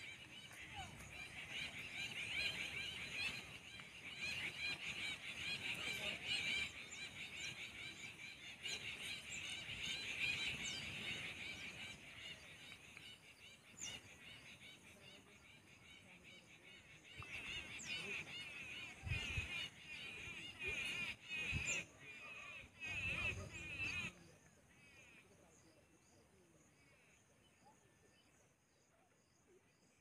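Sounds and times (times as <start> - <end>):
small birds chattering and chirping: 0.0 - 28.4.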